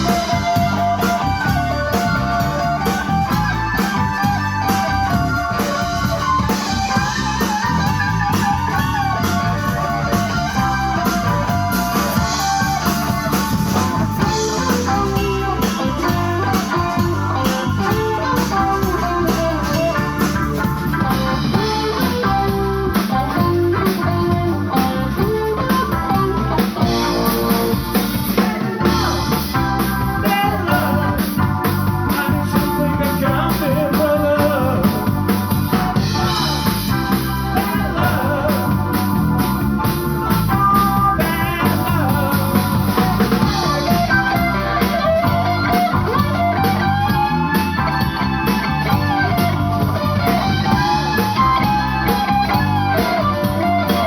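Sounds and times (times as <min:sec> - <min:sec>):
bass: 0:00.0 - 0:54.0
drum kit beat: 0:00.0 - 0:54.0
guitar lines: 0:00.0 - 0:54.0.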